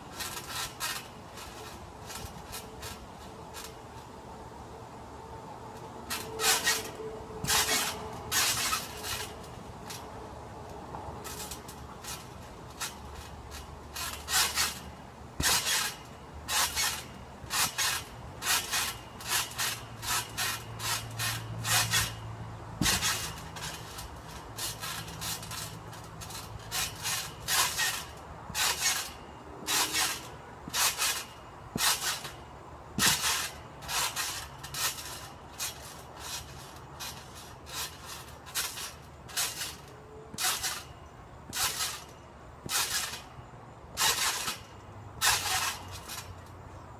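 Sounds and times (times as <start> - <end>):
trampoline bouncing: 0.0 - 4.9, 5.6 - 46.9.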